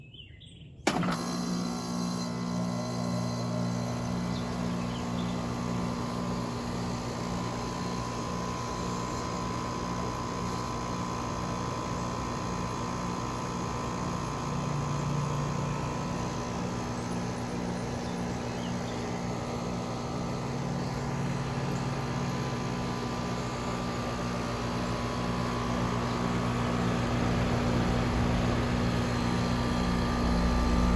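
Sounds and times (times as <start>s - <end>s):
condenser fan running: 0.9s - 30.9s
heat pump compressor humming: 0.9s - 30.9s.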